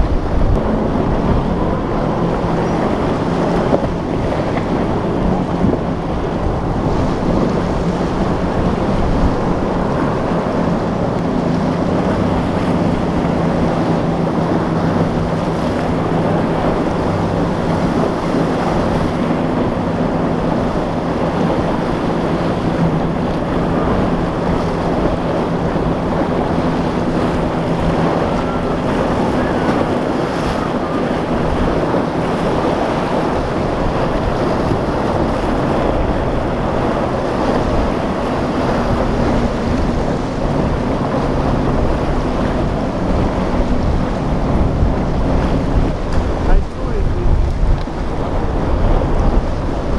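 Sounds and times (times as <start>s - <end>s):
boat engines droning: 0.0s - 49.9s
surf breaking: 0.0s - 49.9s
wind buffeting microphone: 0.0s - 49.9s.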